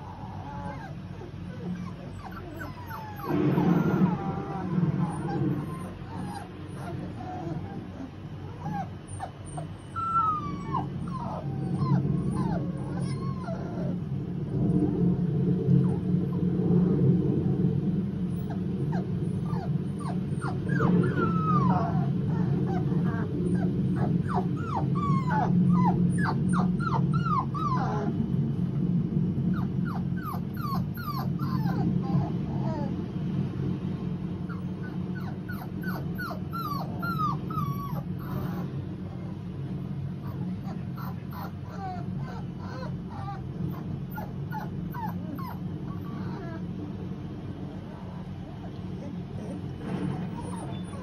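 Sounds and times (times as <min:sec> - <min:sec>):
puppies whimpering and squealing: 0:00.0 - 0:14.3, 0:15.8 - 0:16.6, 0:18.2 - 0:28.3, 0:29.5 - 0:33.1, 0:34.4 - 0:39.5, 0:40.1 - 0:46.8, 0:47.6 - 0:51.0
steady low rumble: 0:00.0 - 0:51.0.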